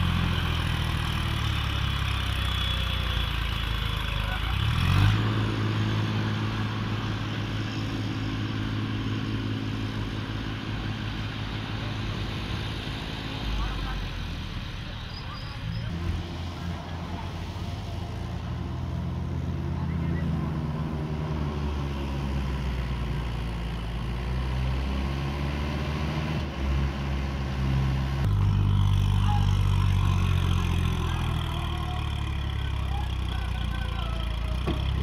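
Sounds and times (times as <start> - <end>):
diesel tractor engines: 0.0 - 35.0.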